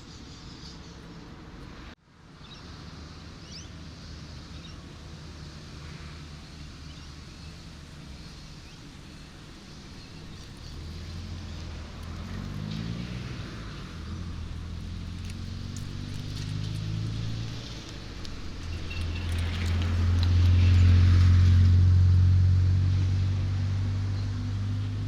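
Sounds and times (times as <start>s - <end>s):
vehicle engine approaching: 0.0s - 25.0s
passing cars rushing: 2.6s - 25.0s.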